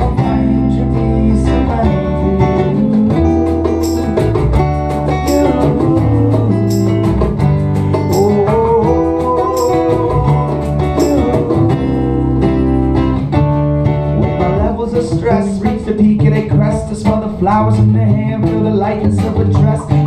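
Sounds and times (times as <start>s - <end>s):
acoustic guitars playing: 0.0s - 20.0s.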